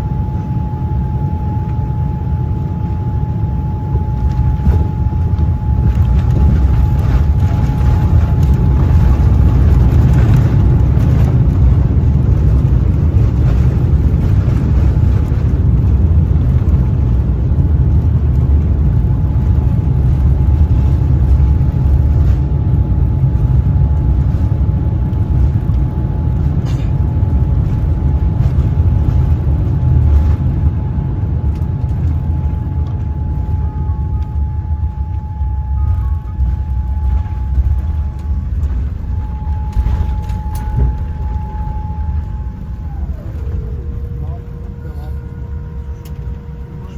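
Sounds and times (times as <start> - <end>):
airliner engine rumble: 0.0 - 46.9
thin constant whine: 0.0 - 46.9.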